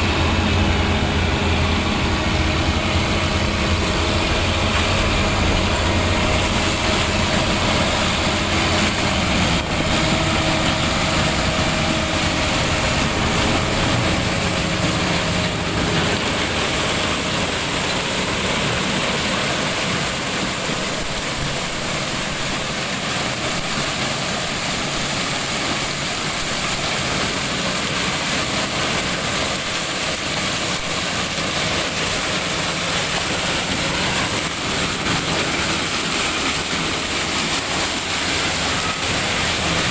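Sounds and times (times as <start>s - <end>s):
constant hiss: 0.0s - 39.9s
tractor diesel engine running: 0.0s - 39.9s.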